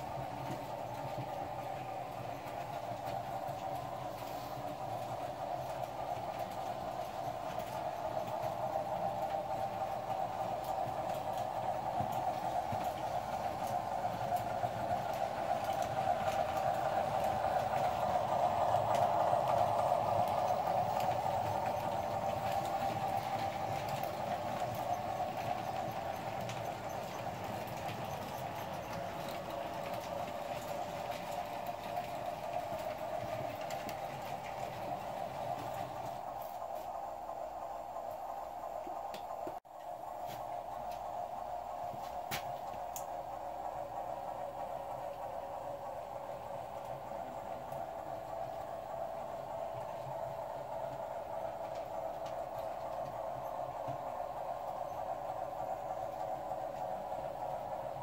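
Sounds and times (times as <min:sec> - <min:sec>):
model train humming: 0:00.0 - 0:58.0
wheels clicking over rail joints: 0:00.0 - 0:58.0.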